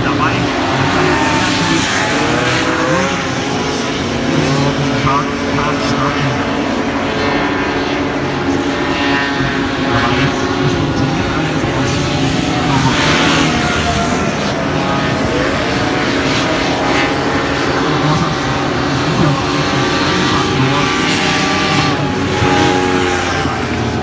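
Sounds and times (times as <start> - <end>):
hovercraft engines droning: 0.0 - 24.0.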